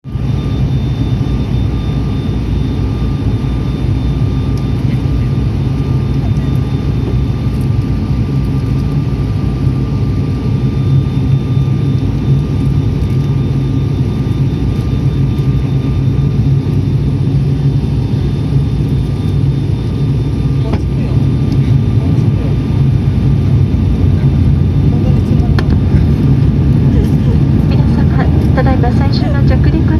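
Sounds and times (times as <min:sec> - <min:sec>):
airliner engine drone: 0:00.0 - 0:29.9
faint whining tones: 0:00.1 - 0:29.9.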